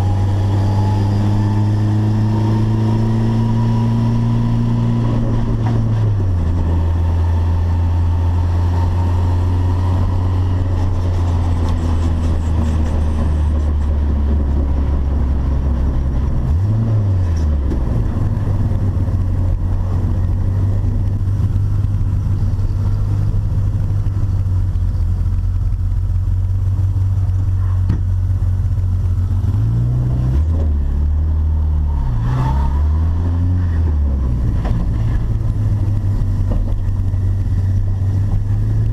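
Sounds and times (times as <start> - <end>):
turbocharged car engine running: 0.0 - 38.9.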